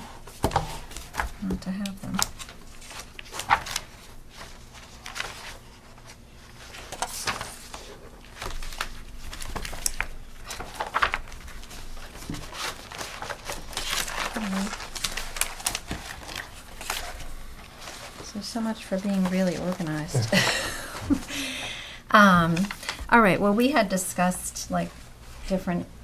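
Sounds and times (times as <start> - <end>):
paper rustling: 0.0 - 21.2, 22.3 - 23.1.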